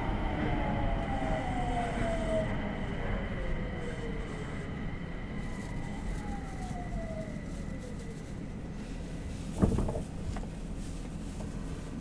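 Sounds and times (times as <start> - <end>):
subway train rumble in tunnel: 0.0 - 12.0.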